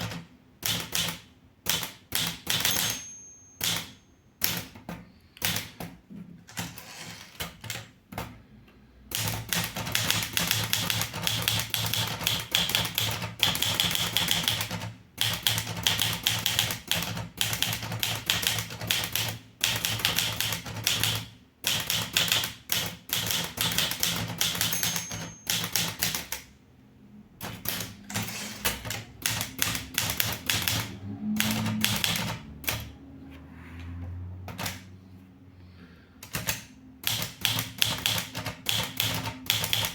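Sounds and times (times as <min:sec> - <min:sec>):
manual typewriter keystrokes: 0:00.0 - 0:08.4, 0:09.1 - 0:26.5, 0:27.4 - 0:32.9, 0:34.4 - 0:34.9, 0:36.2 - 0:39.9.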